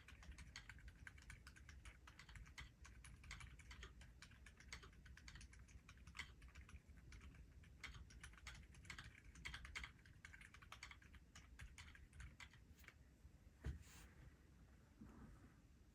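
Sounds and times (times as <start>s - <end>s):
quiet mechanical keyboard typing: 0.0s - 13.0s.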